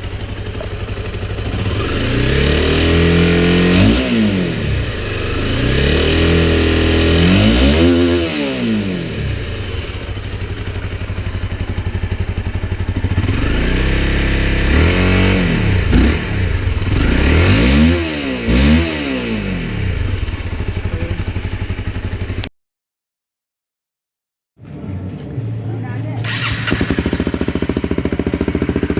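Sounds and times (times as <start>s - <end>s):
motorcycle engine idling and revving: 0.0s - 22.5s, 24.6s - 28.9s.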